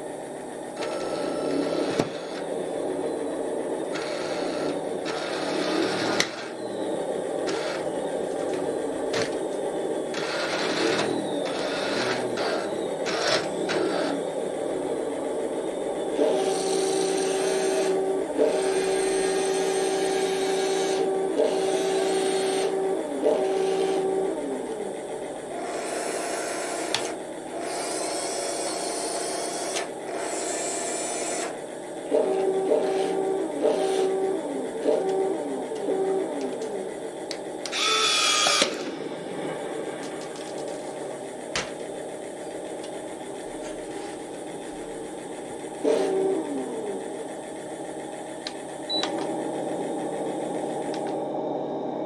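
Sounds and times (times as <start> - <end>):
model tank motors whirring: 0.7 - 51.1.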